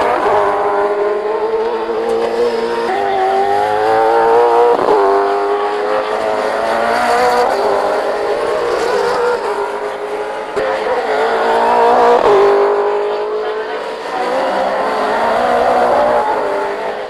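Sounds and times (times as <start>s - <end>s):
racing engines revving: 0.0s - 17.0s.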